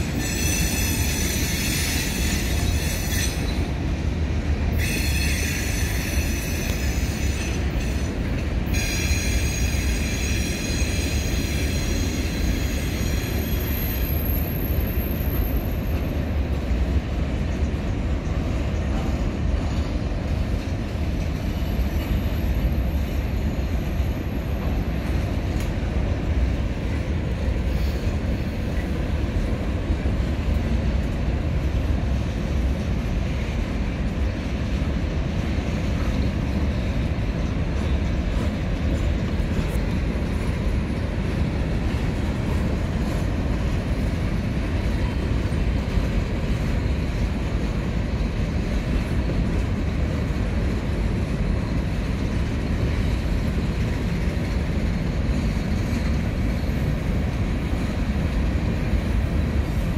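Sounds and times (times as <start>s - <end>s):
freight train cars rumbling: 0.0s - 59.9s.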